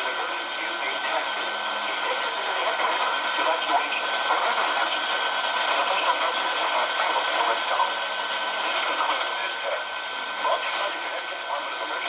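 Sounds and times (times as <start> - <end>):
faint voice: 0.0 - 12.0
radio static and hiss: 0.0 - 12.0.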